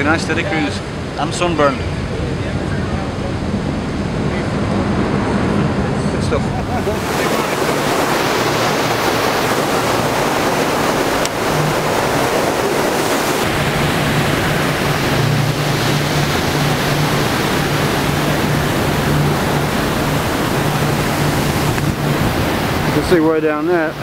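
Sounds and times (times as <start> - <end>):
rush of turbulent water: 0.0 - 24.0.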